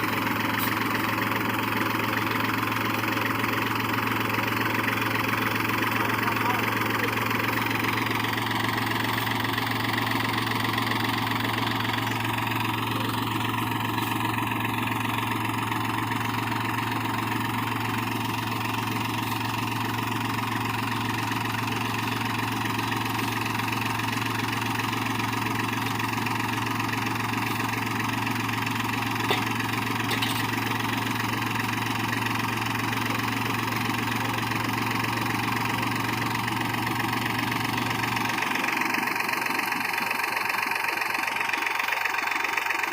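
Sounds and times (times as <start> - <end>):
tractor diesel engine idling: 0.0 - 42.9.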